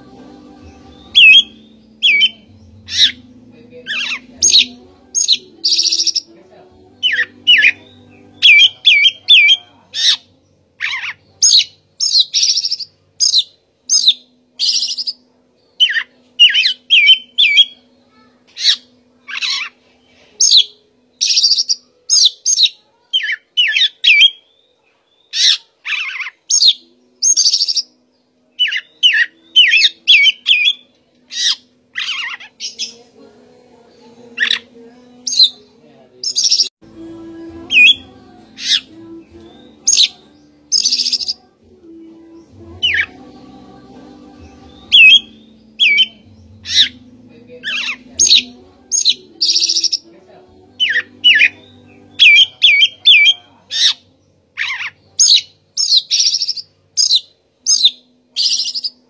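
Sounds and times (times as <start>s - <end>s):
bird singing: 0.0s - 19.8s, 20.4s - 36.8s, 37.4s - 59.0s.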